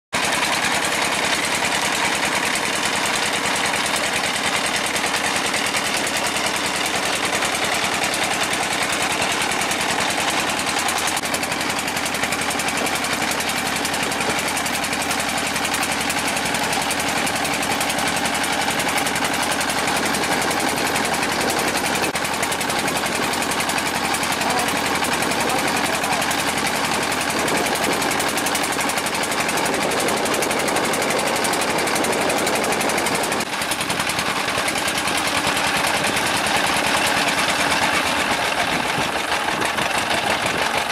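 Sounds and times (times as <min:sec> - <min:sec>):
boat engine running: 0:00.2 - 0:40.9.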